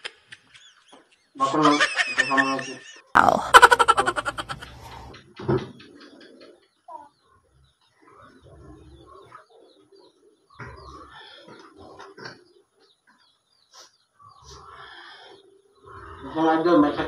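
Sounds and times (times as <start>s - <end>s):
faint bird calls: 2.4s - 16.9s.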